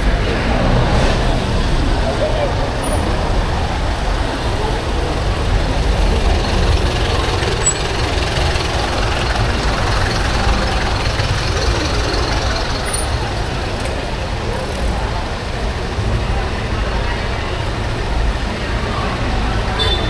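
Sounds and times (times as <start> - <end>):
traffic engines idling: 0.0 - 20.0.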